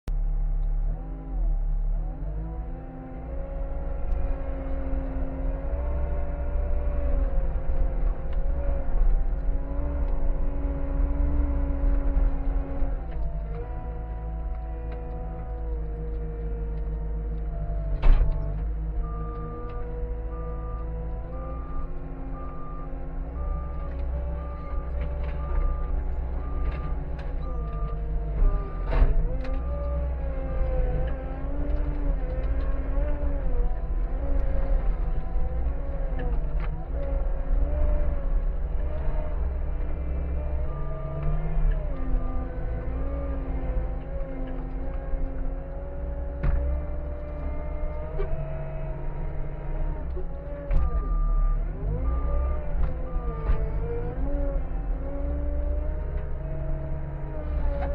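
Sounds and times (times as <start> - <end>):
skid steer engine whining: 0.1 - 57.9.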